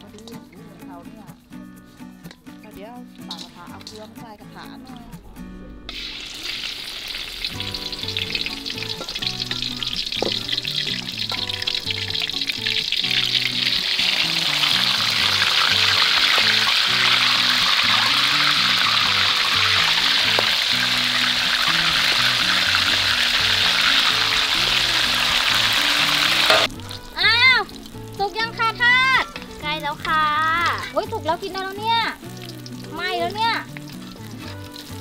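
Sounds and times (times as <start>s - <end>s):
background music: 0.0s - 35.0s
fish sizzling in hot oil: 5.9s - 35.0s.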